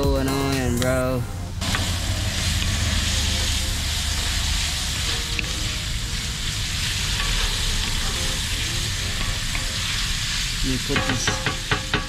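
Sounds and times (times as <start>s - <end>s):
low steady rumble: 0.0s - 10.6s
sausage sizzling in a pot: 1.5s - 12.0s.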